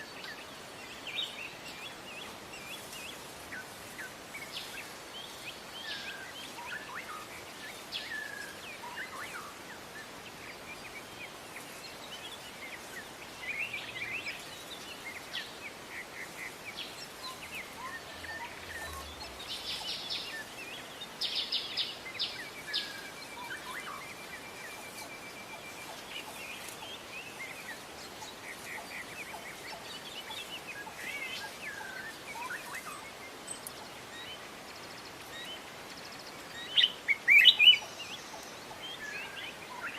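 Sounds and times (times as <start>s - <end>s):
outdoor background hiss: 0.0s - 39.9s
songbirds chirping: 0.0s - 39.9s.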